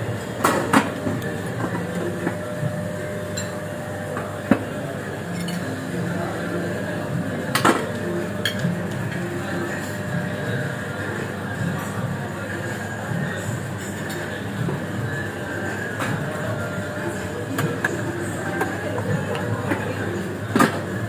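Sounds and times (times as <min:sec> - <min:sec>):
murmur of voices: 0:00.0 - 0:21.0.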